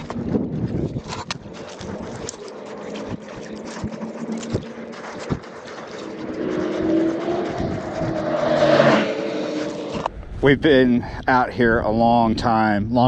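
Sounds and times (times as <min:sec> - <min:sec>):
engine humming: 0:00.0 - 0:12.0
wind on microphone: 0:00.0 - 0:13.0.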